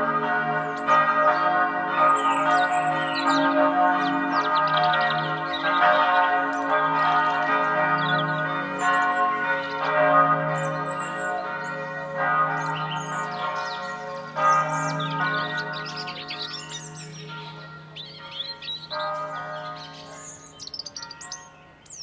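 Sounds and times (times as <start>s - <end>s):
bells ringing: 0.0s - 22.0s
birds chirping: 0.2s - 22.0s.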